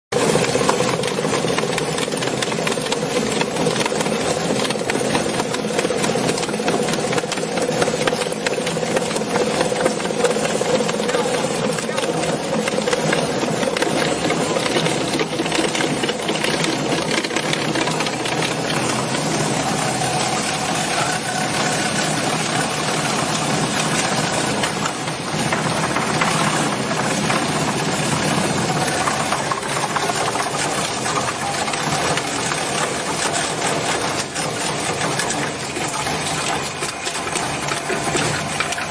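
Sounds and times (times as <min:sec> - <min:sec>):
tire shredder running: 0:00.1 - 0:38.9.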